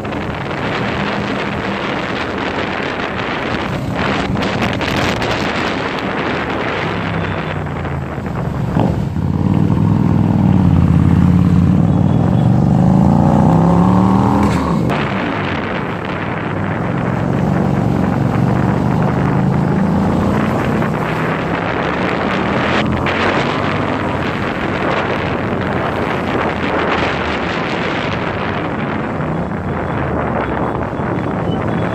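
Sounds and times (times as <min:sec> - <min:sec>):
motorcycle engine revving: 0:00.1 - 0:29.4.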